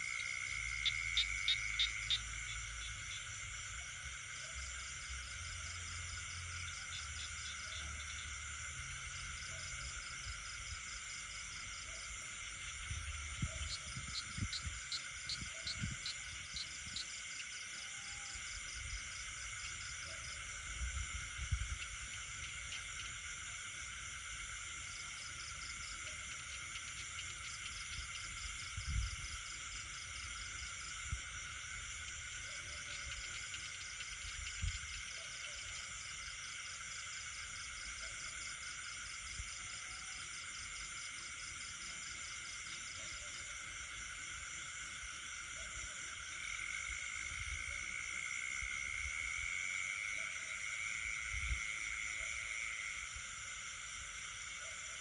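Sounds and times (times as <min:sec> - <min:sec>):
frog calls: 0:00.0 - 0:10.7, 0:11.4 - 0:36.8, 0:37.4 - 0:53.2, 0:54.3 - 0:55.0
insects trilling: 0:00.0 - 0:55.0
rapid pulsing insect call: 0:00.0 - 0:55.0.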